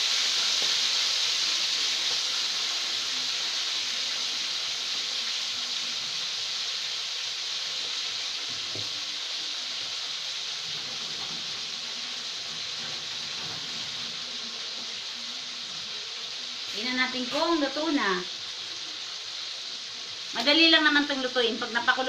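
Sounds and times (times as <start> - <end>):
soup boiling hiss: 0.0 - 22.0.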